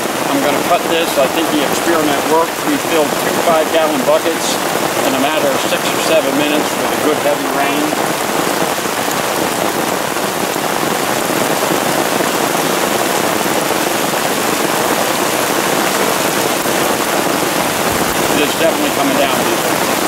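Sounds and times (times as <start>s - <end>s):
heavy rain on a tarp: 0.0s - 20.0s.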